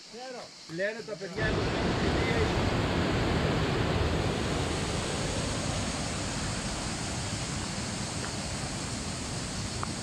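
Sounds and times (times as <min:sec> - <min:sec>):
stream rushing down waterfall: 0:01.4 - 0:10.0.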